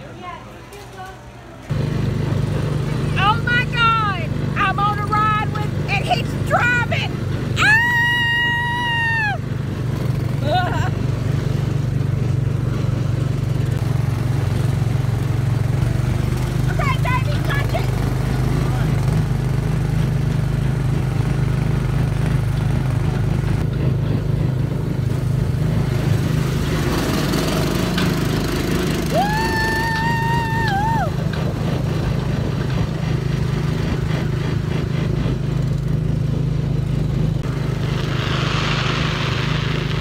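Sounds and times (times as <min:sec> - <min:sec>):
small gasoline engine running: 0:01.7 - 0:07.6, 0:09.1 - 0:40.0.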